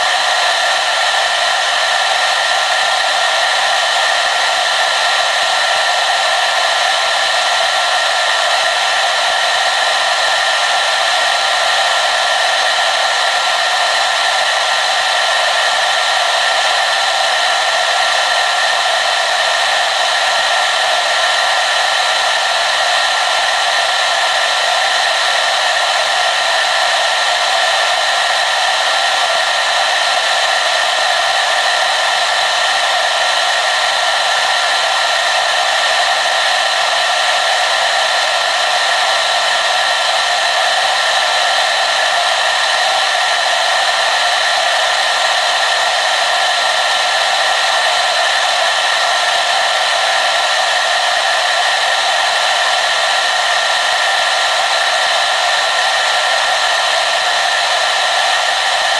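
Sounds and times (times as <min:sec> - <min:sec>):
hair dryer blowing air: 0:00.0 - 0:58.9.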